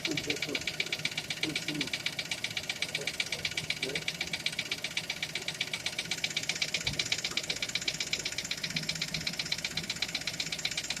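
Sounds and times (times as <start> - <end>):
car engine with rapid knock: 0.0 - 11.0.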